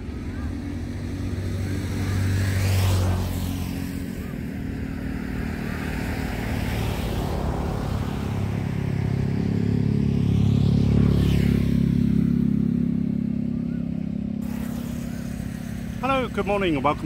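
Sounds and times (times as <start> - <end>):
traffic engine hum: 0.0 - 17.0
vehicle passing by: 0.0 - 17.0.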